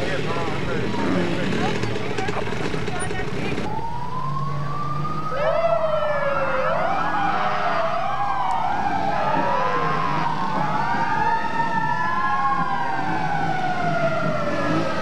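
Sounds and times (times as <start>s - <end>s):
sirens wailing: 0.0s - 15.0s.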